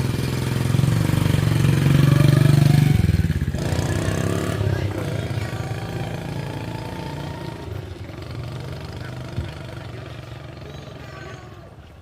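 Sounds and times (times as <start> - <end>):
small motorbike engine running: 0.0 - 11.5.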